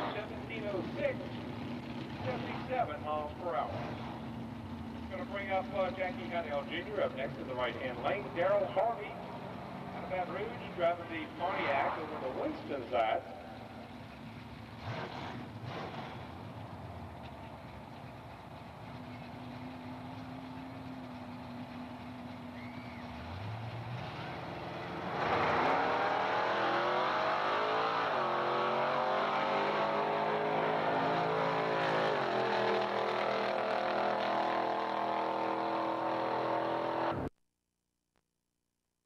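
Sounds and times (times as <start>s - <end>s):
car engine idling and revving: 0.0s - 37.3s
drag racing cars accelerating: 0.0s - 37.3s.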